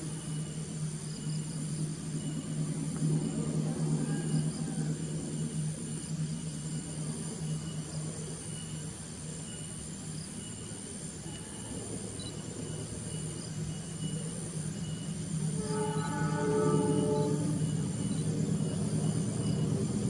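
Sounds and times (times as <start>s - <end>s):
diesel locomotive engine humming: 0.0s - 20.0s
insects chirping: 0.0s - 20.0s.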